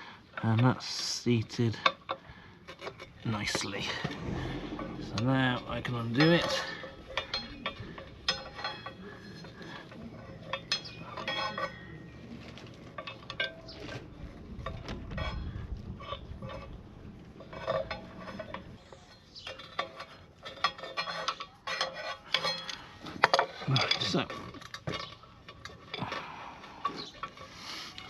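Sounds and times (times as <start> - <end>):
metal tools clinking on metal: 1.6 - 16.7, 17.4 - 28.0.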